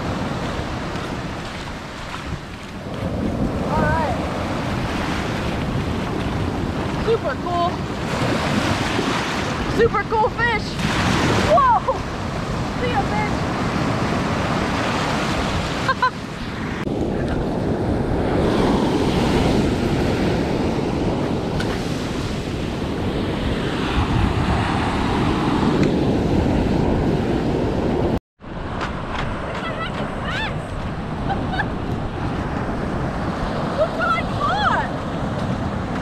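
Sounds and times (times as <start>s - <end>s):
ocean surf breaking: 0.0s - 36.0s
wind buffeting microphone: 0.0s - 36.0s.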